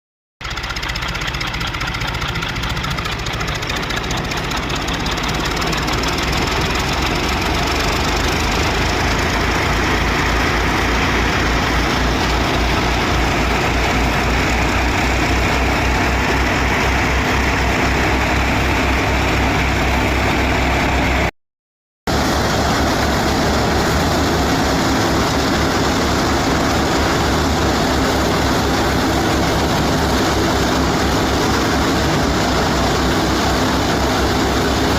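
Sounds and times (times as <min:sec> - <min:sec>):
threshing machinery noise: 0:00.4 - 0:21.3, 0:22.1 - 0:34.9
tractor engine running: 0:00.4 - 0:21.3, 0:22.1 - 0:34.9.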